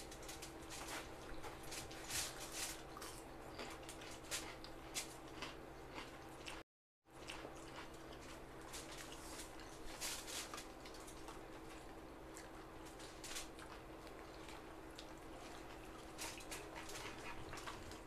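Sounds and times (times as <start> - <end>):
faint steady hum: 0.0 - 18.0
mouths chewing and smacking: 2.7 - 18.0.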